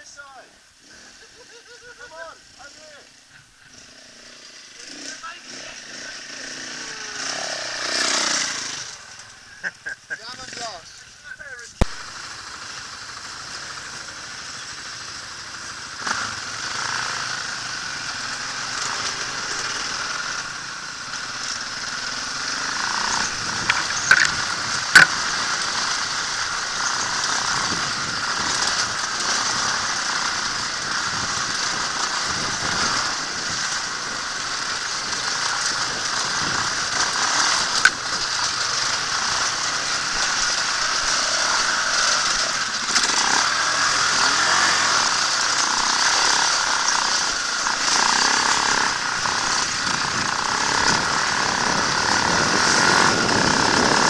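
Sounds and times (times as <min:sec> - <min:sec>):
dirt bike engine running: 0:00.7 - 0:54.0.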